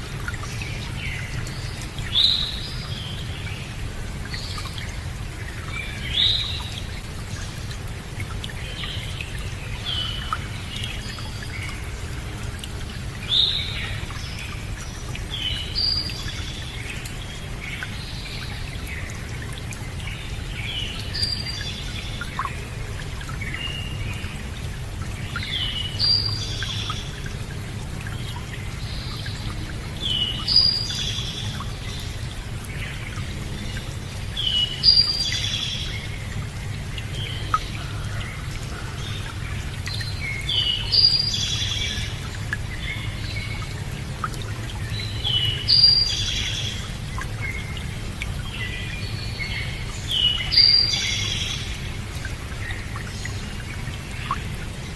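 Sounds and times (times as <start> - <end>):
flowing water rushing: 0.0 - 54.9
songbirds chirping: 0.0 - 54.9.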